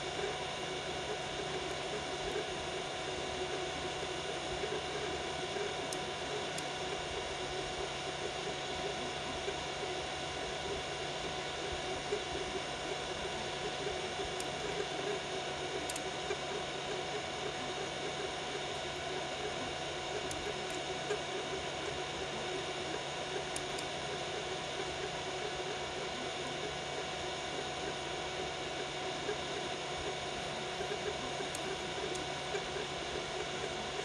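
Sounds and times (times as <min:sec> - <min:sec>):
printer motor tones: 0:00.0 - 0:34.0.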